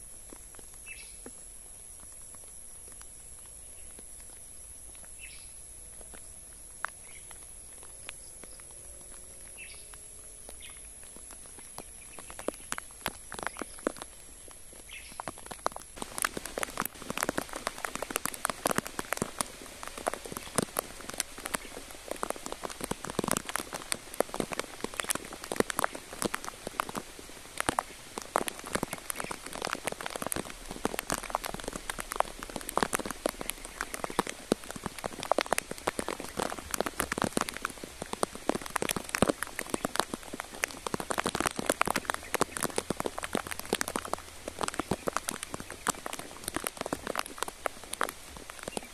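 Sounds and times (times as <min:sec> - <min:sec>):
light rain pattering: 0:00.0 - 0:48.9.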